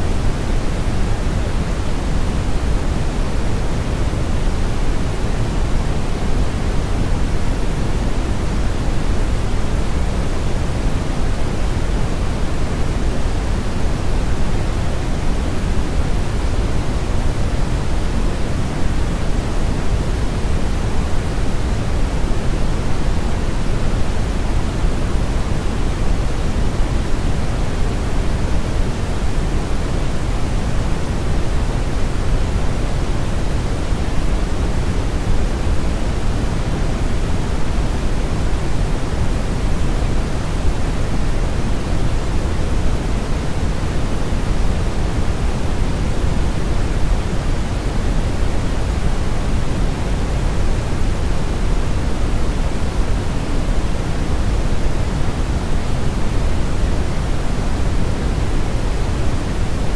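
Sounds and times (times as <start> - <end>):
brown noise hiss: 0.0 - 59.9.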